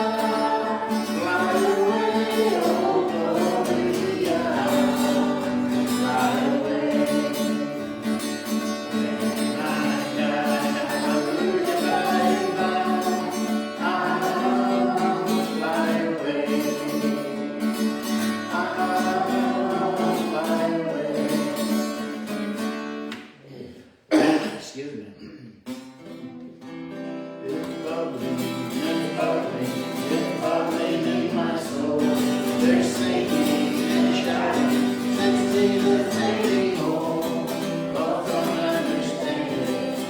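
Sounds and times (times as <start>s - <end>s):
person singing worship song: 0.0s - 22.2s, 27.4s - 40.0s
guitar accompaniment: 0.0s - 23.4s, 25.6s - 40.0s.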